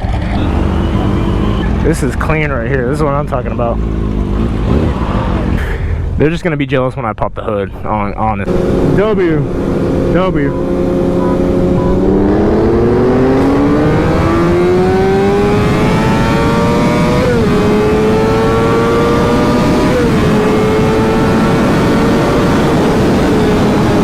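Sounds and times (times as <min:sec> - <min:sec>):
motorcycle engine accelerating: 0:00.0 - 0:05.7, 0:08.4 - 0:24.0.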